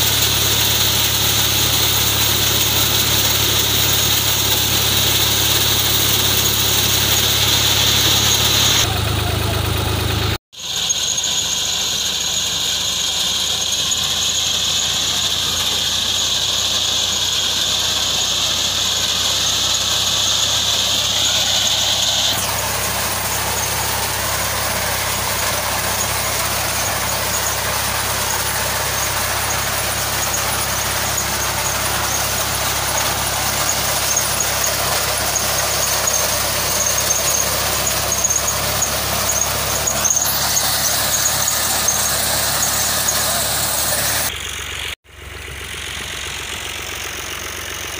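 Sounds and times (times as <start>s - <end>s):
high-pitched whine: 0.0s - 44.4s
reaper cutting fodder: 0.0s - 47.9s
tractor diesel engine running: 0.0s - 47.9s.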